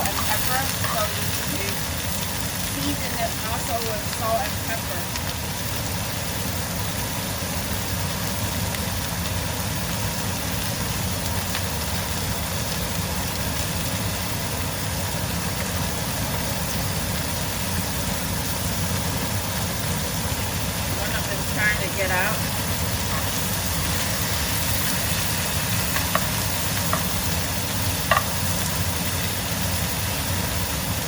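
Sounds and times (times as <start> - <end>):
exhaust fan humming: 0.0 - 31.0
food frying in oil: 0.0 - 31.0.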